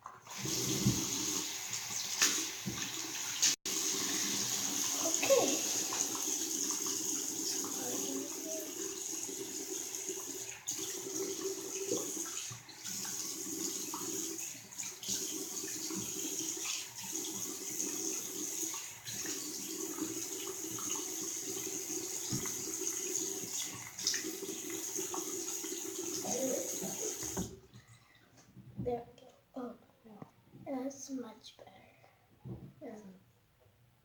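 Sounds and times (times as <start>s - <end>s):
tap water running into sink: 0.0s - 27.7s.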